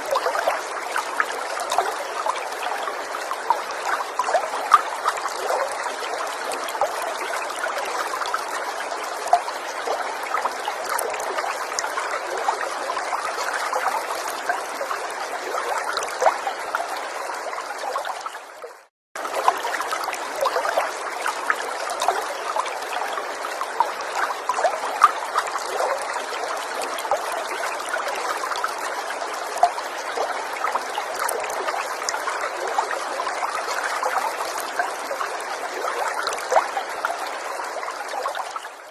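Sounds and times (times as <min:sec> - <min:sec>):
stream babbling over stones: 0:00.0 - 0:18.6, 0:19.2 - 0:38.9.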